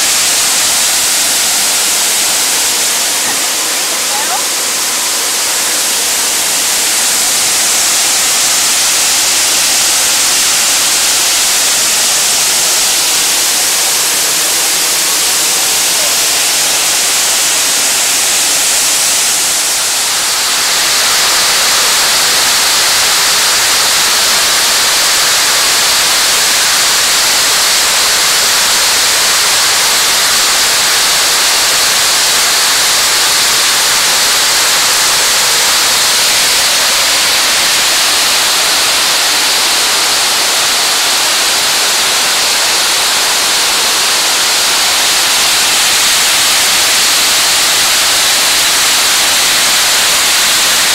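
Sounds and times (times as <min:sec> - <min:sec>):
creek water rushing: 0:00.0 - 0:50.9.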